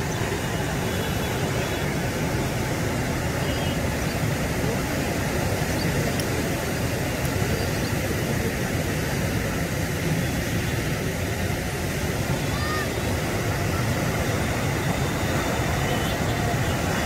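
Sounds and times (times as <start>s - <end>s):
floodwater rushing in river: 0.0s - 17.0s.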